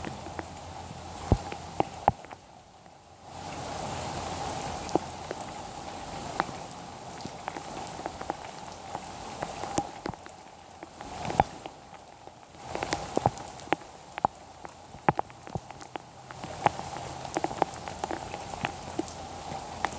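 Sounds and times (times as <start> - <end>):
steady rain falling: 0.0 - 19.9
water drips landing close: 0.0 - 19.9.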